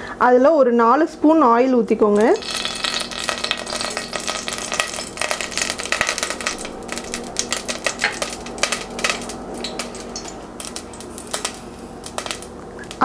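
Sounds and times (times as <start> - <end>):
oil crackling in a pan: 2.2 - 13.0.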